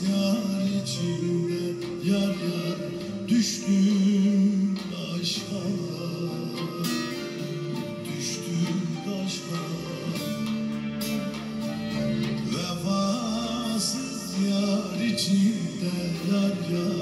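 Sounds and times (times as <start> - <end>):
orchestra playing: 0.1 - 17.0.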